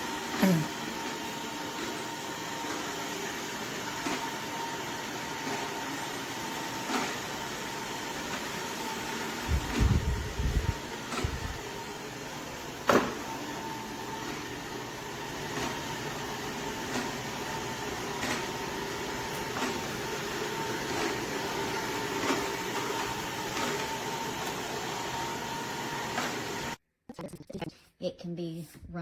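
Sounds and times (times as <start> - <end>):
robot vacuum motor hum: 0.0 - 26.8.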